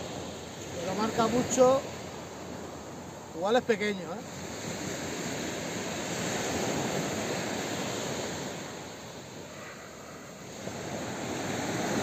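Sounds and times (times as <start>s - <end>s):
sea waves breaking on shore: 0.0s - 12.0s.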